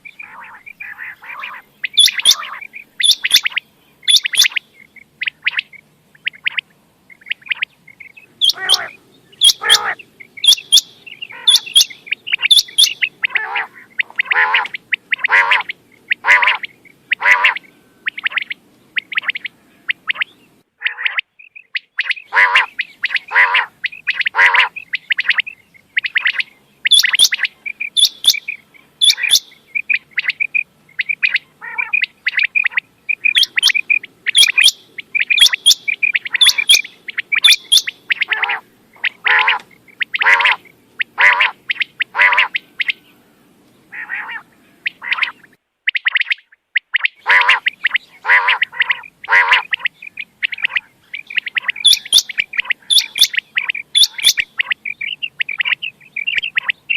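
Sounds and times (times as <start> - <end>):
quail calling: 0.0 - 43.1, 43.9 - 56.9.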